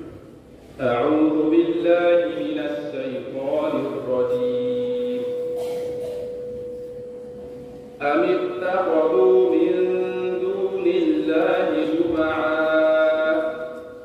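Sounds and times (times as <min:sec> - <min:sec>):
man reciting melodically through pa: 0:00.0 - 0:06.4, 0:07.9 - 0:14.0.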